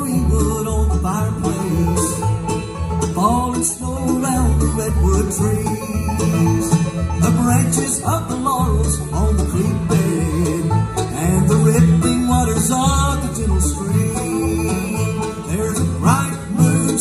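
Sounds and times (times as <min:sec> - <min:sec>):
acoustic guitar: 0:00.0 - 0:17.0
banjo: 0:00.0 - 0:17.0
fiddle: 0:00.0 - 0:17.0
mandolin: 0:00.0 - 0:17.0
upright bass pulsing: 0:00.0 - 0:17.0.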